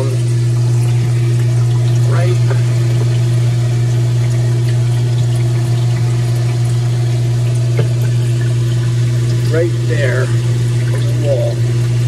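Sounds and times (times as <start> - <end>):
ice machine hum: 0.0 - 12.0
water pumping and splashing: 0.0 - 12.0.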